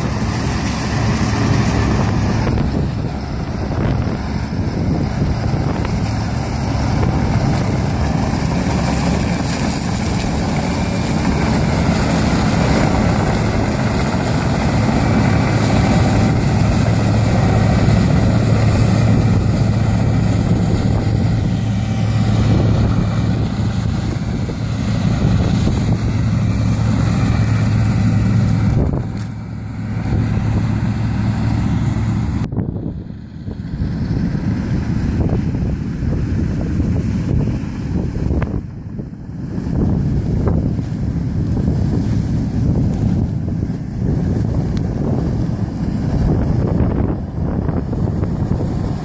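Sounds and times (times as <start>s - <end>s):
combine harvester engine hum: 0.0s - 49.0s
wind rumble on microphone: 0.0s - 49.0s.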